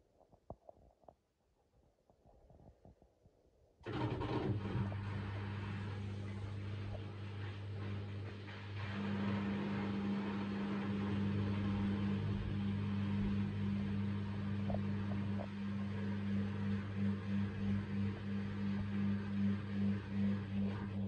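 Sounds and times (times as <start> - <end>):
washing machine spinning: 3.8 - 21.0.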